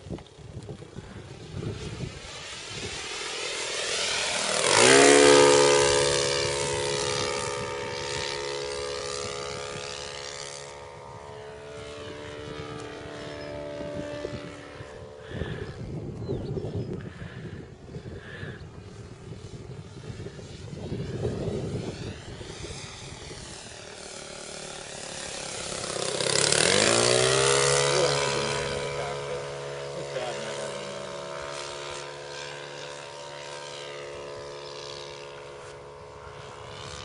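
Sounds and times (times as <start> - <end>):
model plane engine flying past: 0.0 - 37.0.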